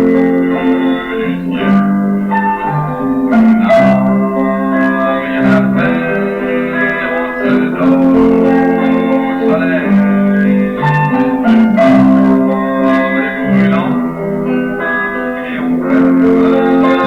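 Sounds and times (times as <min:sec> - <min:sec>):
plucked guitar chords: 0:00.0 - 0:17.0.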